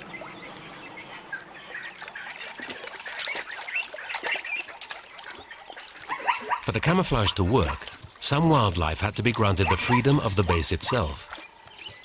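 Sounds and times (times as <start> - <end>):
wild birds calling: 0.0 - 12.0.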